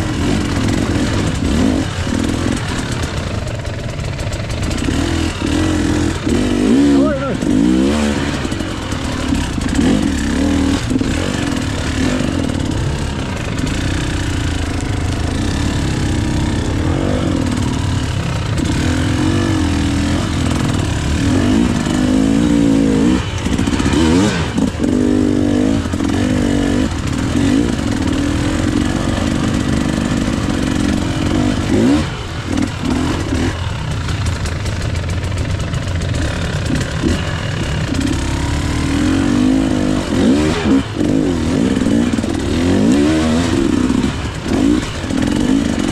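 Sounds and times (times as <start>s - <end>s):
two-stroke motorbike engine revving: 0.0s - 45.9s.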